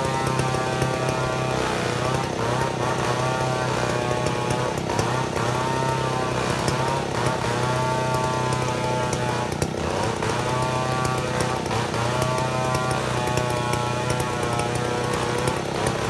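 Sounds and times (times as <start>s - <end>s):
chainsaw cutting log: 0.0s - 16.0s.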